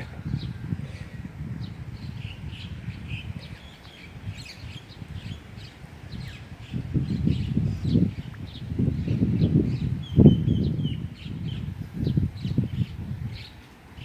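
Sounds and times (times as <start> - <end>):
small birds chirping: 0.0 - 14.0
wind rumbling on microphone: 0.0 - 14.0.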